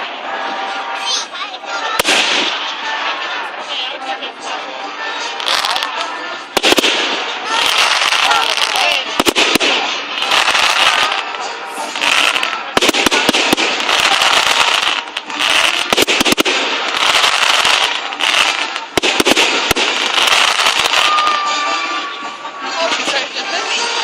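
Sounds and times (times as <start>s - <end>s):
fireworks banging and crackling: 0.0s - 4.6s, 5.2s - 24.0s.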